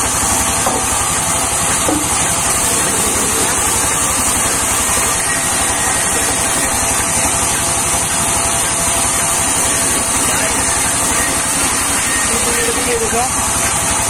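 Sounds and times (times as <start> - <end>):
band saw cutting log: 0.0 - 14.0.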